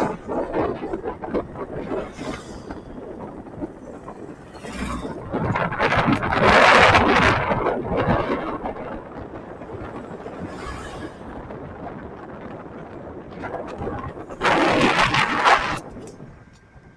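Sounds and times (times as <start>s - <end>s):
wind and road noise rushing: 0.0s - 16.9s.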